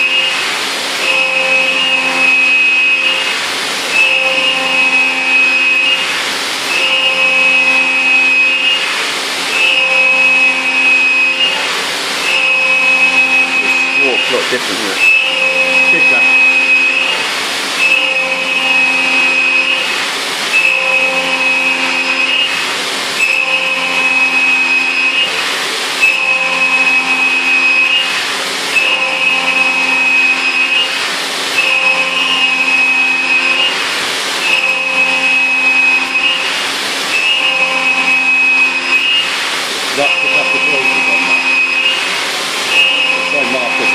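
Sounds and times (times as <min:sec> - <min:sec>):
cutter cutting metal: 0:00.0 - 0:43.9
milling spindle whine: 0:00.0 - 0:43.9.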